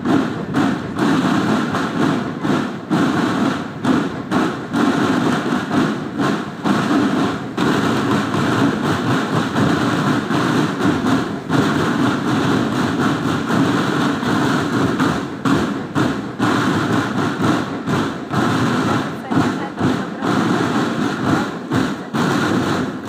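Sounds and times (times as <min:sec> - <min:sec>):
marching drum band: 0:00.0 - 0:23.0
sharp drum strokes: 0:00.0 - 0:23.0.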